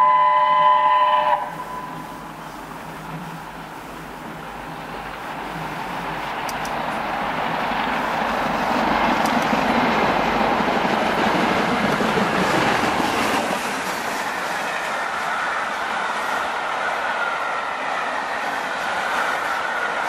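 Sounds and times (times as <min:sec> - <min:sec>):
coaches rolling on rails: 0:00.0 - 0:20.0
steam locomotive passing: 0:00.0 - 0:20.0.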